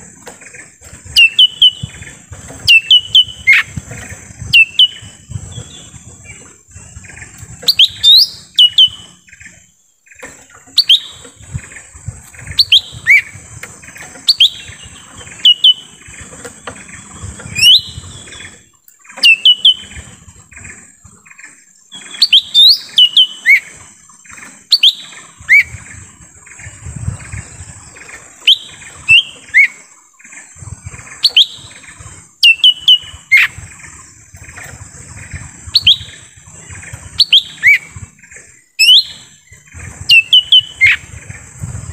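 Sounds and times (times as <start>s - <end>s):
bird whistled calls: 1.1s - 9.6s, 10.7s - 20.8s, 21.9s - 41.9s.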